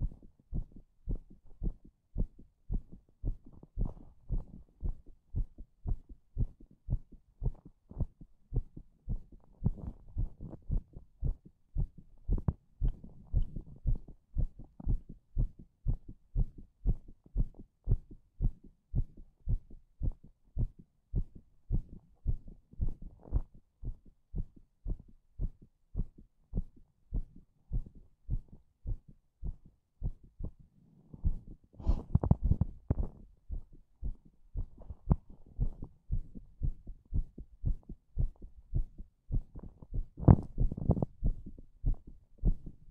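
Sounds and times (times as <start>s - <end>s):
heartbeat thumps: 0.0s - 30.6s, 31.2s - 42.9s.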